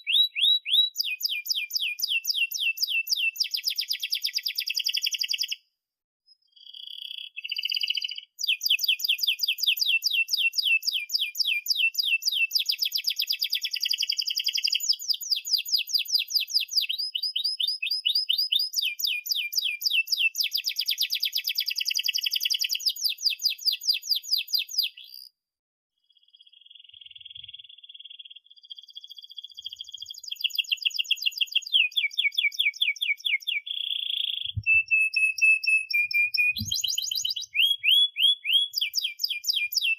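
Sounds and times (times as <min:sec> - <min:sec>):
canary singing trills: 0:00.0 - 0:05.6, 0:06.3 - 0:25.3, 0:26.1 - 0:39.9.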